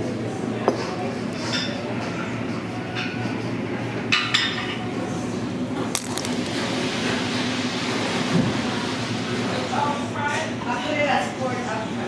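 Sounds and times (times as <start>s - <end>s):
restaurant room noise: 0.0s - 12.0s.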